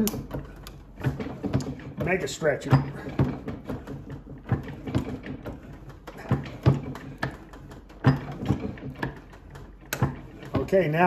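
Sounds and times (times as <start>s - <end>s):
ring stretcher clicks and knocks: 0.0s - 11.0s.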